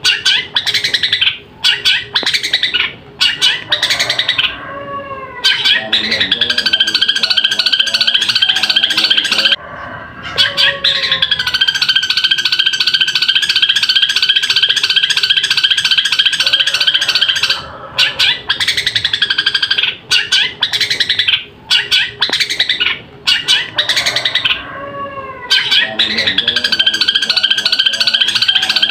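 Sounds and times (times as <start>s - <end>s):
bird singing trills and calls: 0.0s - 4.6s, 5.4s - 9.6s, 10.4s - 24.7s, 25.5s - 28.9s.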